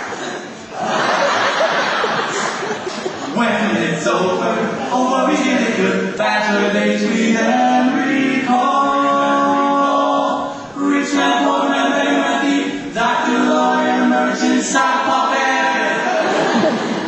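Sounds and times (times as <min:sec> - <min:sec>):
male quartet singing a cappella: 0:03.2 - 0:17.0.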